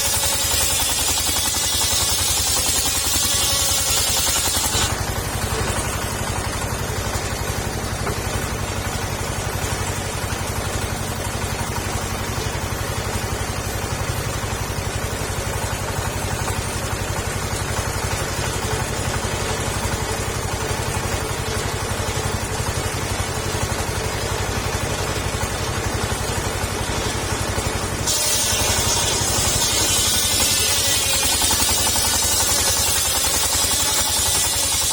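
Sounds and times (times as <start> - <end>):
saw gasoline engine running: 0.0 - 34.9.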